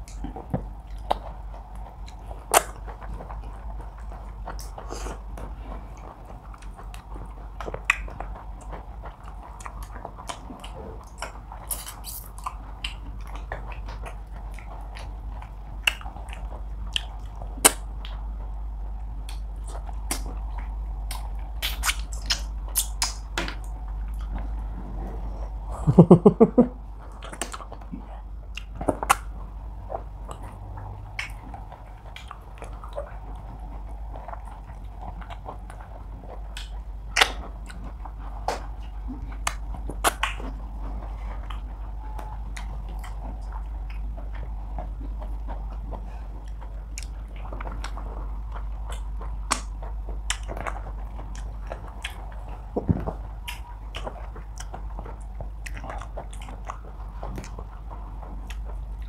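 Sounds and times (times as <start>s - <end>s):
mouth clicks and smacks: 0.0s - 59.0s
people chewing food: 0.0s - 59.0s
steady low hum: 0.0s - 59.0s.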